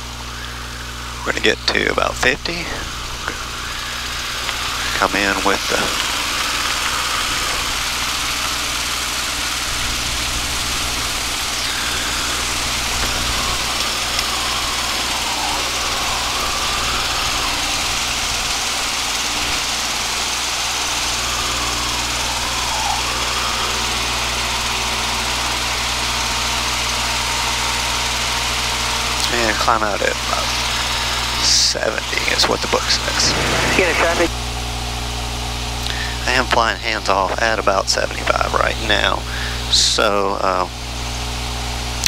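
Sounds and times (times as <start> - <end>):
low rumble: 0.0 - 26.4, 29.2 - 37.4
airplane engine and propeller drone: 0.0 - 42.0.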